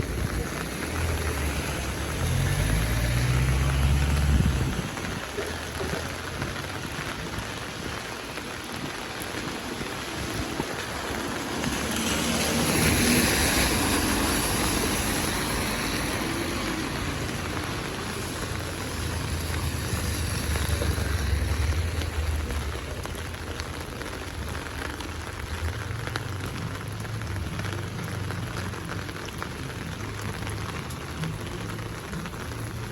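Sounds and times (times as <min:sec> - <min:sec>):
rain on pavement: 0:00.0 - 0:32.9
vehicle passing on wet road: 0:00.0 - 0:32.9.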